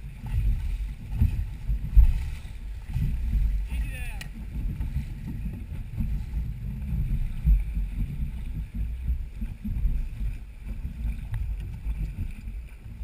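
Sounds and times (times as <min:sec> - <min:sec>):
wind and water buffeting microphone: 0:00.0 - 0:13.0.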